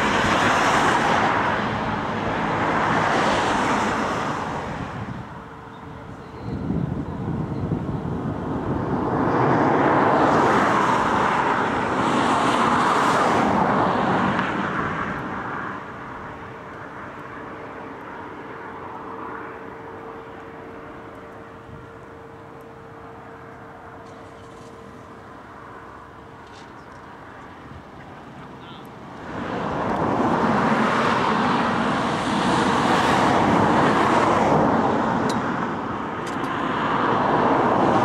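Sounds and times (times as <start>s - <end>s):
vehicle passing by: 0.0s - 5.2s, 6.7s - 21.8s, 24.1s - 38.0s.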